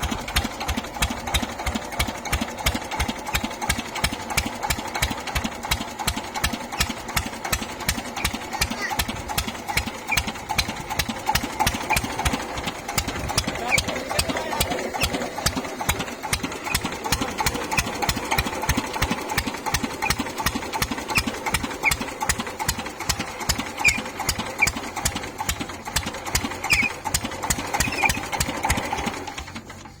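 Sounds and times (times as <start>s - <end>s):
diesel engine knocking: 0.0s - 30.0s.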